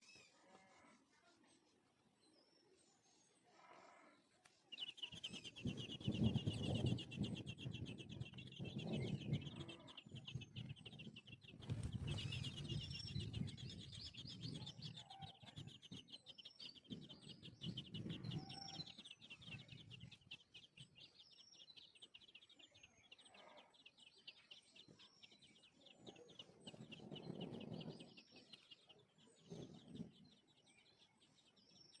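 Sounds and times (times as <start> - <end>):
nestlings chirping: 4.4 - 32.0.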